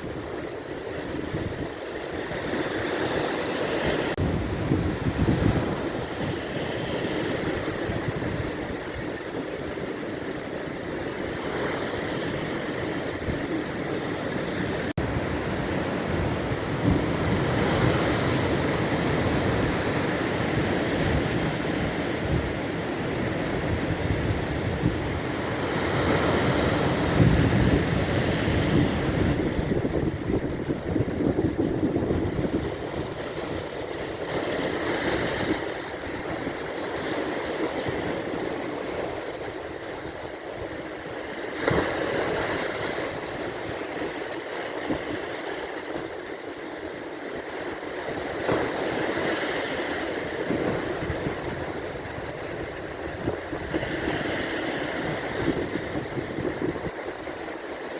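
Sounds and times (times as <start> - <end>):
wind buffeting microphone: 0.0 - 46.4, 47.4 - 57.9
waves washing onto shore: 0.0 - 57.9.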